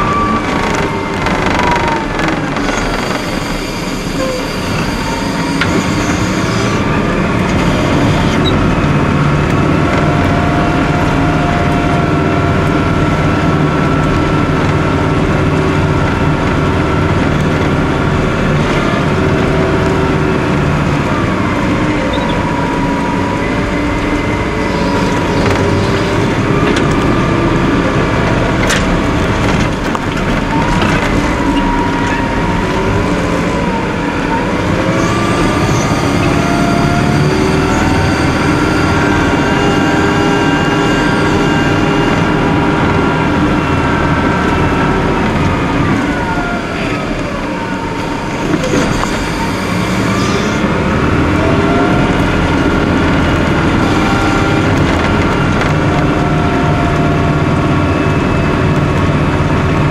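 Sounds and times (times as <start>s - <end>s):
hydraulic whining: 0.0s - 59.9s
loader diesel engine running: 0.0s - 59.9s.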